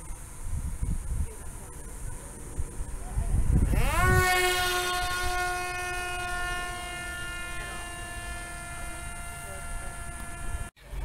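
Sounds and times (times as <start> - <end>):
drone propeller whining: 0.0 - 11.0.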